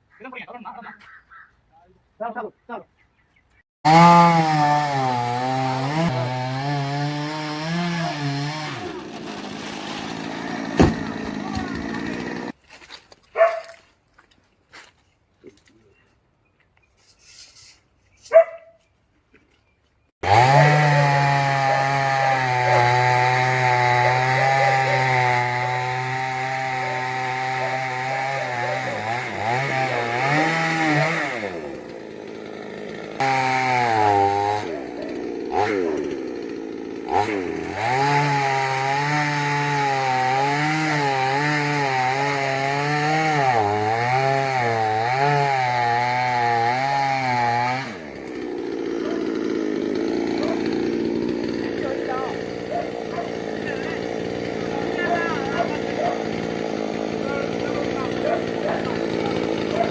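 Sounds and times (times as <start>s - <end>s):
chainsaw engine running: 3.8s - 12.6s, 20.2s - 59.9s.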